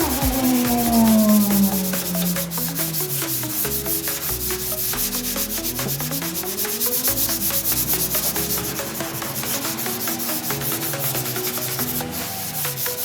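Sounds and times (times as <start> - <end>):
background music: 0.0 - 13.0
rhythmic abrasive rubbing: 0.0 - 13.0.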